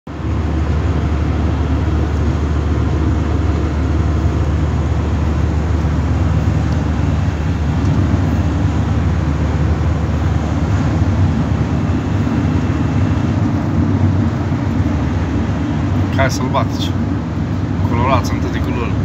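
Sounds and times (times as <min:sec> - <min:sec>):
tyre and engine drone: 0:00.1 - 0:19.0.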